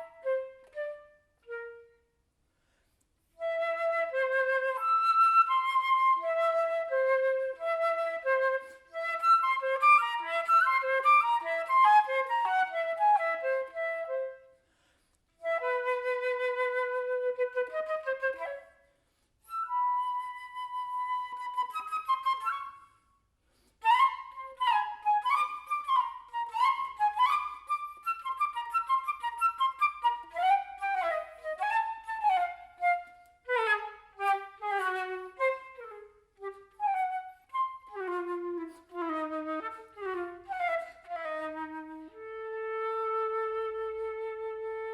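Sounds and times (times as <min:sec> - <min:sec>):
flute melody: 0:00.0 - 0:02.2, 0:03.3 - 0:14.6, 0:15.4 - 0:23.2, 0:23.8 - 0:44.9.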